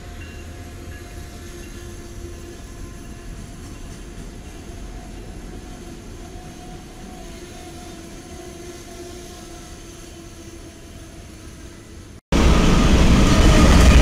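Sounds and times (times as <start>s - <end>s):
train rumbling by: 0.0s - 14.0s.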